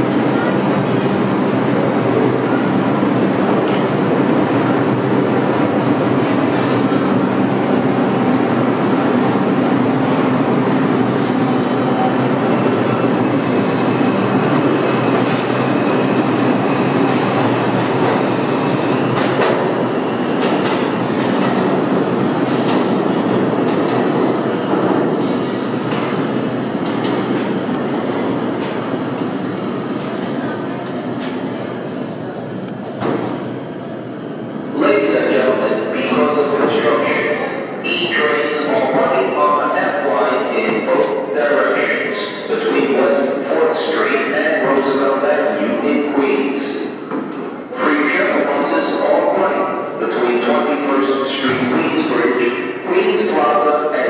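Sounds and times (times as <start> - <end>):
subway train speeding past: 0.0 - 54.0.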